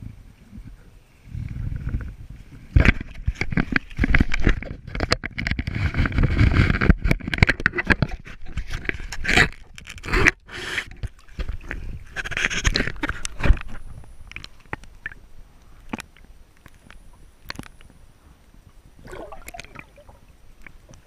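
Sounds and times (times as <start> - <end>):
muffled underwater water rushing: 0.0 - 21.0.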